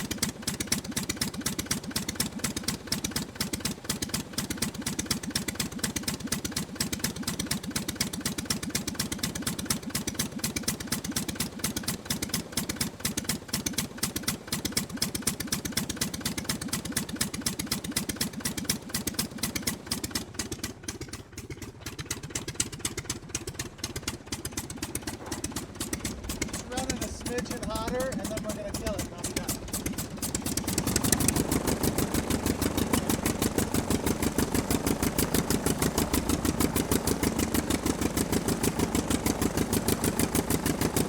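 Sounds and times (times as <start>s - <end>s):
aircraft engine running: 0.0s - 41.0s.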